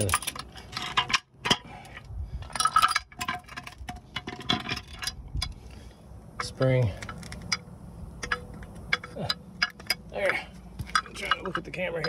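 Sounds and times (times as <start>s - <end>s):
metal parts clicking and clinking: 0.0s - 5.6s, 6.4s - 12.0s.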